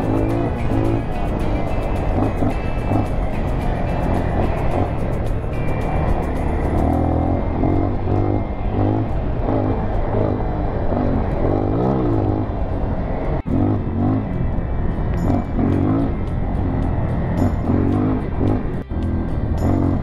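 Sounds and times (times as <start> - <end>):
dirt bike engine revving: 0.0 - 20.0
wind noise: 0.0 - 20.0.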